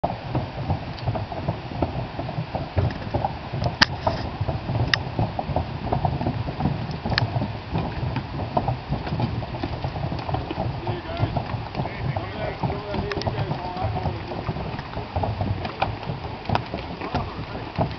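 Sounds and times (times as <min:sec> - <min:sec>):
hooves clopping on wooden bridge: 0:00.0 - 0:17.9.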